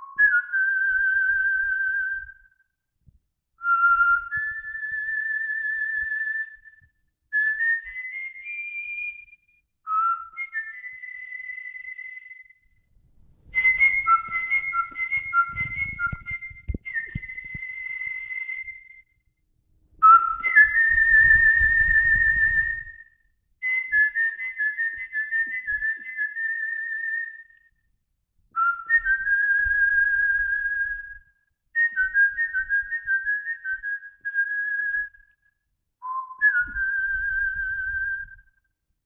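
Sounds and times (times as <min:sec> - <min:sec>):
person whistling a melody: 0:00.0 - 0:02.6, 0:03.6 - 0:12.6, 0:13.5 - 0:19.2, 0:20.0 - 0:27.7, 0:28.6 - 0:38.6.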